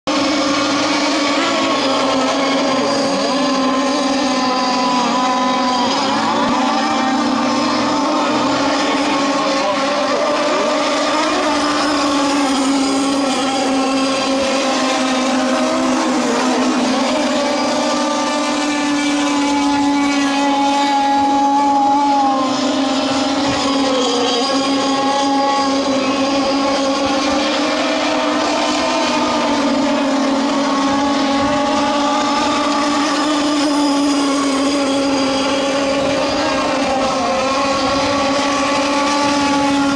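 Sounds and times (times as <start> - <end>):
model boat engines droning: 0.0 - 39.9.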